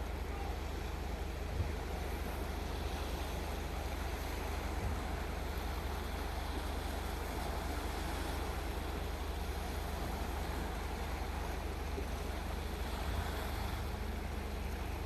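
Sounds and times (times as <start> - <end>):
waves washing: 0.0 - 15.0
wind rumble on microphone: 0.0 - 15.0.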